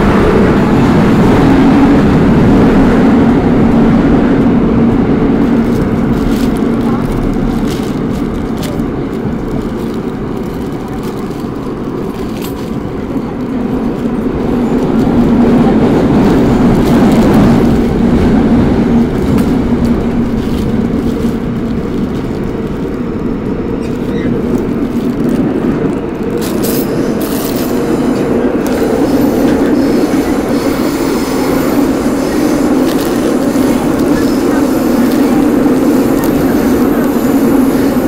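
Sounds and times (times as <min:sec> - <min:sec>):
subway train rumbling: 0:00.0 - 0:38.0.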